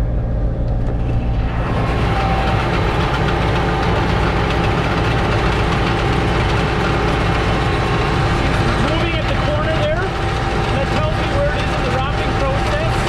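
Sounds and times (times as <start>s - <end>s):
tractor diesel engine running: 0.0s - 13.0s
baler mechanical clatter: 0.6s - 13.0s.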